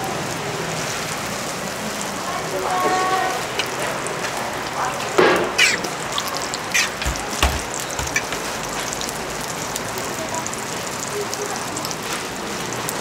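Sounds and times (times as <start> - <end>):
dough sizzling in oil: 0.0 - 13.0.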